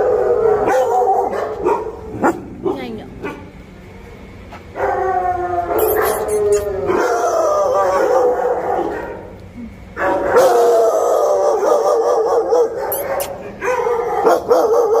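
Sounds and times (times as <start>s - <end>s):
dogs howling and barking: 0.0s - 3.6s, 4.7s - 15.0s.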